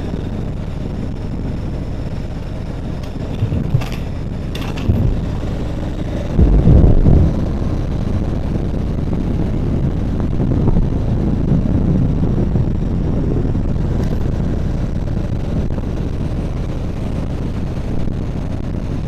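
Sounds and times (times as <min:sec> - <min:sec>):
motorcycle engine: 0:00.0 - 0:19.0
wind on microphone: 0:00.0 - 0:19.0.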